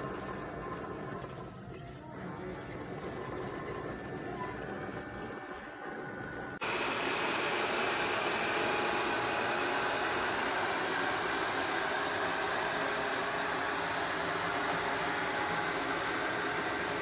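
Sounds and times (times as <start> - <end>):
vacuum suction motor rushing: 2.5 - 17.0.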